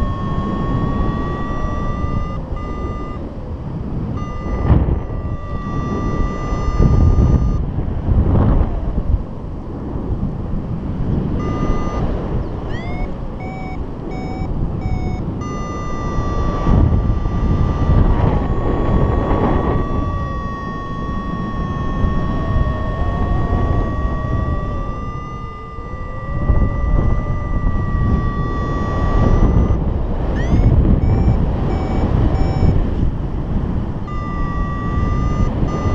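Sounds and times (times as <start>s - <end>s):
variometer beeps and tone: 0.0s - 7.6s, 11.2s - 35.9s
wind rushing across microphone: 0.0s - 35.9s.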